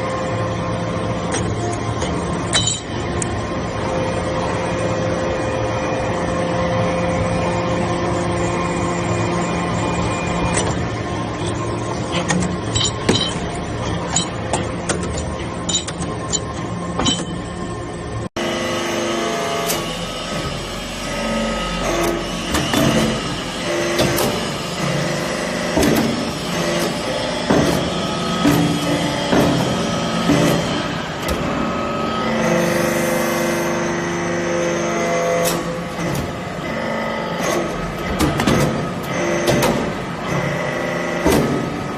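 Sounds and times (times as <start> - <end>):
baler machine hum: 0.0 - 41.9.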